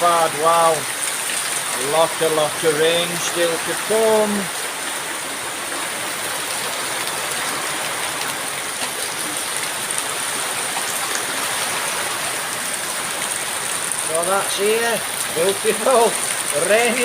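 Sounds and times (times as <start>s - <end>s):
rain downpour: 0.0s - 17.0s.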